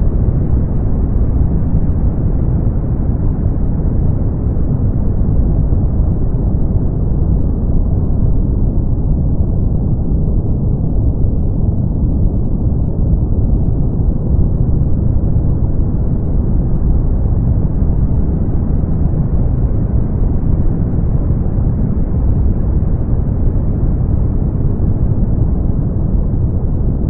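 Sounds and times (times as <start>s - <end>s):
brown noise: 0.0s - 27.0s.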